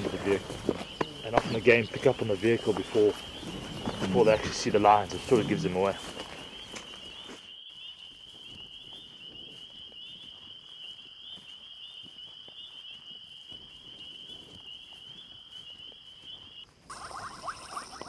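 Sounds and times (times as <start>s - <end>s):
footsteps on dry ground: 0.0s - 18.0s
insects trilling: 0.0s - 18.0s.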